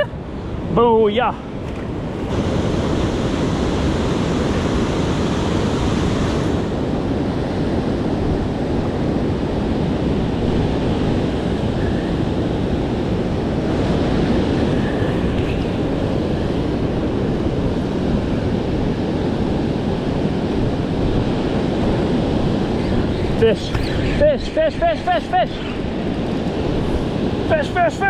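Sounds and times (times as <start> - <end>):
wind buffeting microphone: 0.0 - 28.0
river water rushing: 0.1 - 28.0.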